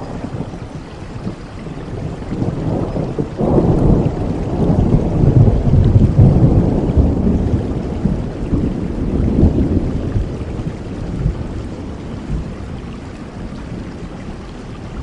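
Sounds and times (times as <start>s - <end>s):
rolling thunder: 0.0s - 14.2s
heavy rain: 0.0s - 15.0s.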